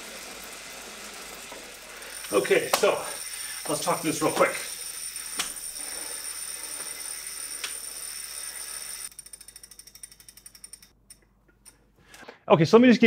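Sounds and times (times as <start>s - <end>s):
flywheel whirring whine: 0.0s - 10.9s
freehub pawls clicking rapidly: 0.0s - 11.2s.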